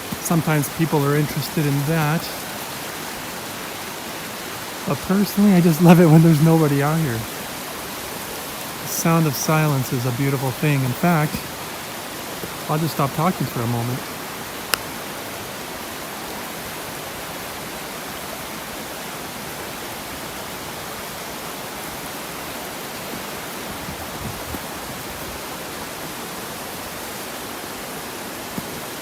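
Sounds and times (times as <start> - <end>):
river water running: 0.0 - 29.0.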